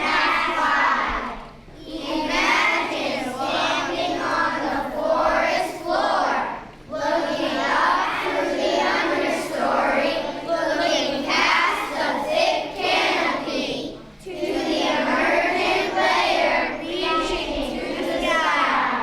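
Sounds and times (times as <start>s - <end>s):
children singing: 0.0s - 19.0s.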